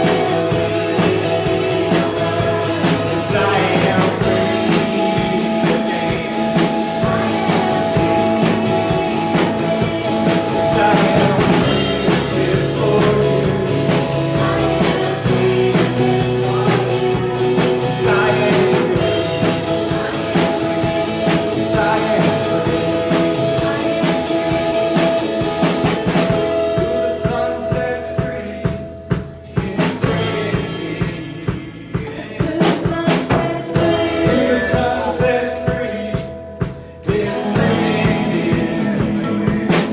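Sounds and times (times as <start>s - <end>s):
drum kit: 0.0s - 39.9s
person singing: 0.0s - 39.9s
worship band playing: 0.0s - 39.9s.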